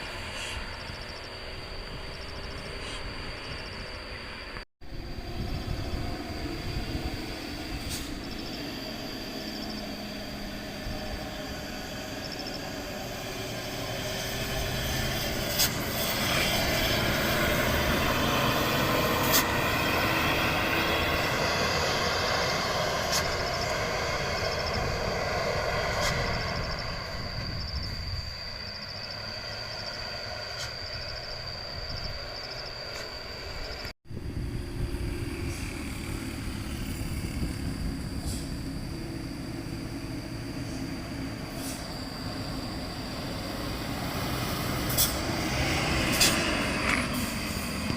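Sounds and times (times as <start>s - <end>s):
truck brakes squealing: 5.0s - 33.8s, 35.2s - 47.9s.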